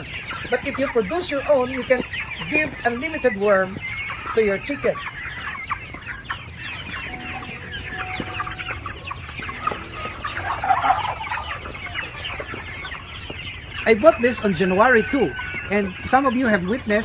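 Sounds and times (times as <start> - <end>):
young chickens clucking and chirping: 0.0 - 17.0.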